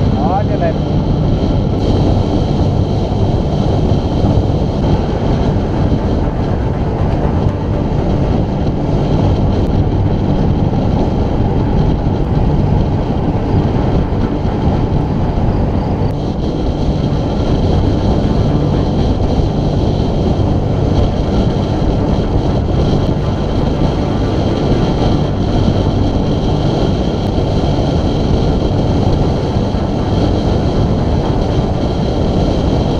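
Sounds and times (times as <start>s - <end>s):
tyres rumbling on tarmac: 0.0s - 32.9s
wind buffeting microphone: 0.0s - 32.9s.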